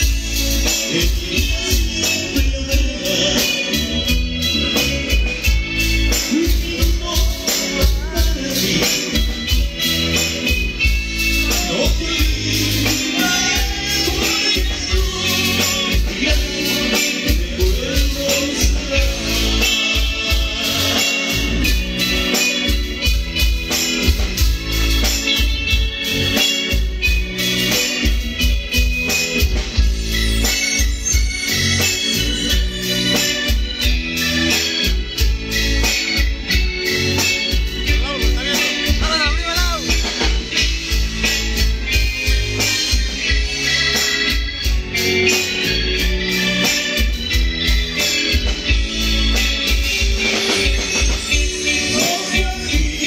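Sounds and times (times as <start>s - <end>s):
electronic organ keyboard: 0.0s - 53.0s.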